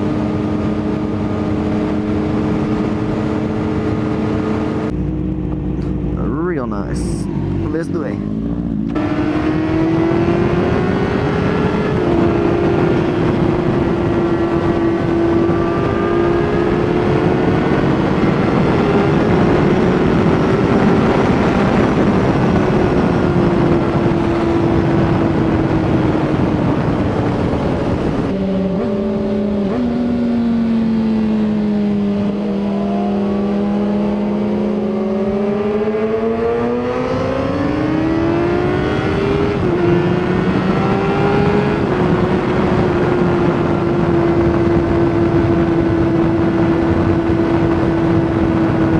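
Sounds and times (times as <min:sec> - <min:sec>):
motorcycle engine revving: 0:00.0 - 0:48.9
wind rushing on microphone: 0:00.0 - 0:48.9.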